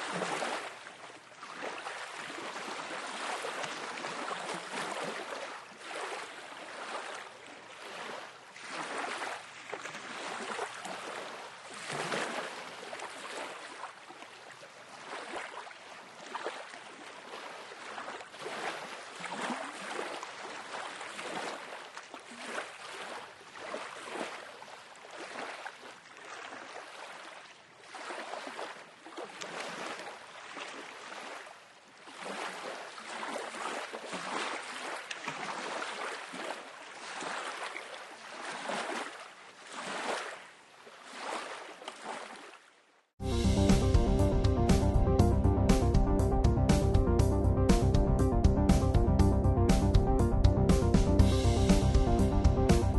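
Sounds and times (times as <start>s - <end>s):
small waves lapping on shore: 0.0s - 43.3s.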